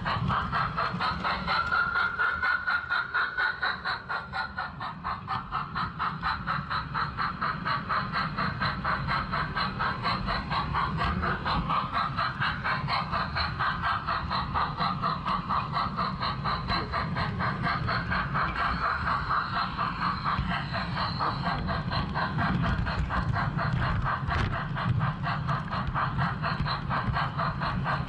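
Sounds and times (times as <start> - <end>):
model train clattering on track: 0.0 - 28.0.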